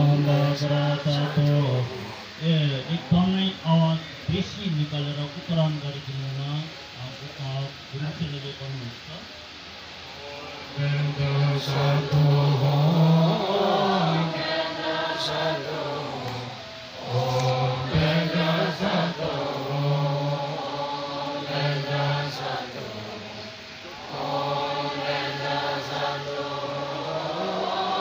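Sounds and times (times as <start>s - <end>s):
monks chanting in unison: 0.0s - 5.3s, 10.0s - 28.0s.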